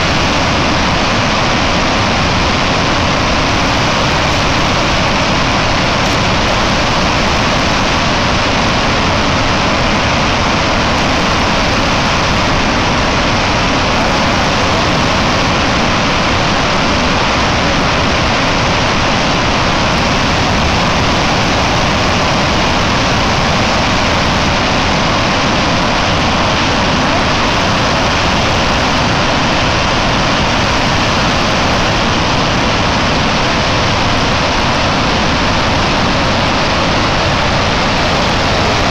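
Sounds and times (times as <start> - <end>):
water rushing through spillway: 0.0 - 38.9.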